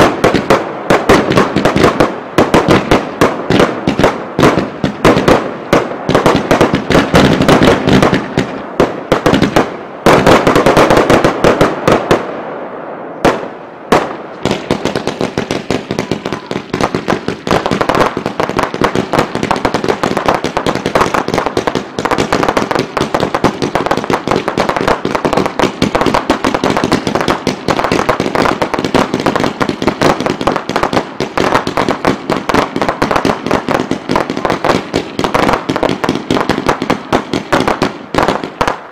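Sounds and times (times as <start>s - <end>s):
fireworks bangs and bursts: 0.0s - 38.9s.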